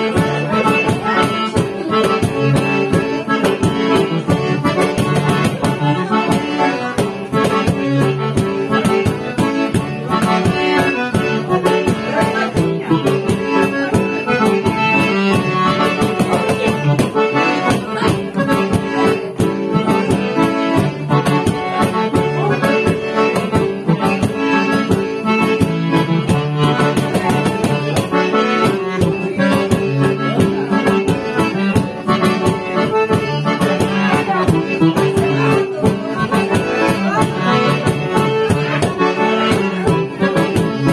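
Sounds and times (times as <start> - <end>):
accordion playing lively tune: 0.0 - 40.9.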